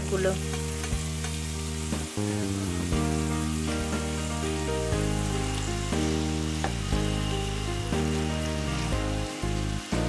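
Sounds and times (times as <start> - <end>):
background music of held notes: 0.0 - 10.0
leaves sizzling in hot oil: 0.0 - 10.0.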